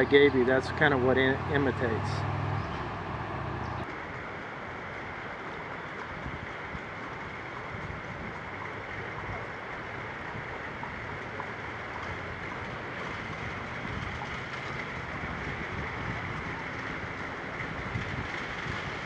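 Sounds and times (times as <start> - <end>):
river water rushing over riffle: 0.0 - 19.0.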